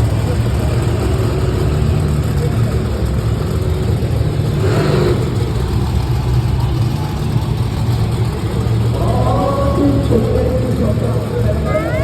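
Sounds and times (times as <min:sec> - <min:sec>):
large engine low rumble: 0:00.0 - 0:12.0.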